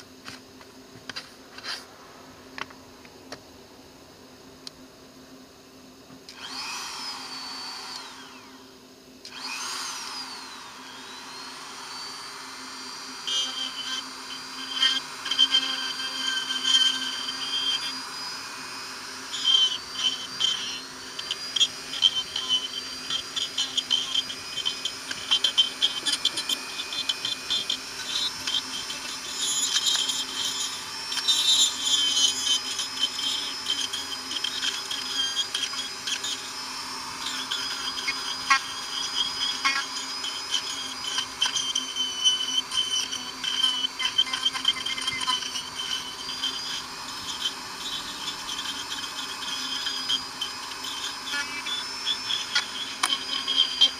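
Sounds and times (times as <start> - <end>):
rotary tool whining: 6.2 - 53.9
rotary bit grinding wood: 6.3 - 53.9.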